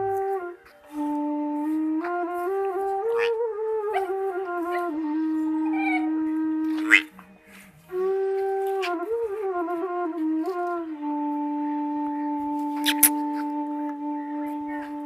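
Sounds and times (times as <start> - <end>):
sustained gliding melody: 0.0 - 15.0.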